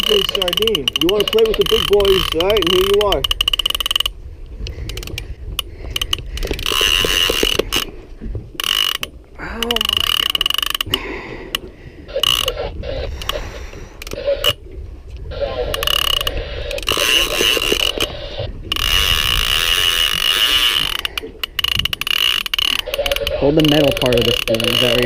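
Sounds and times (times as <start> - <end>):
fishing reel buzzing and ratcheting: 0.0 - 4.2, 4.8 - 7.9, 8.6 - 11.6, 12.2 - 12.6, 13.2 - 14.6, 15.7 - 18.1, 18.7 - 25.0.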